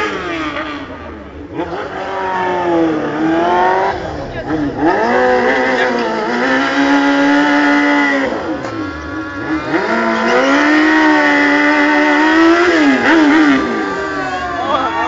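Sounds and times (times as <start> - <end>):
motorcycle engine revving high: 0.0 - 15.0.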